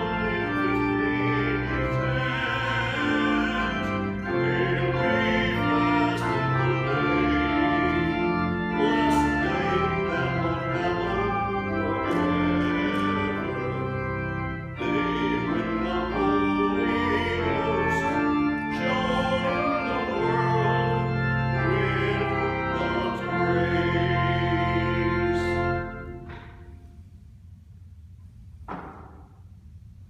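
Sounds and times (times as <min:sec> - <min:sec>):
voices singing: 0:00.0 - 0:26.4
pipe organ playing a hymn: 0:00.0 - 0:26.9.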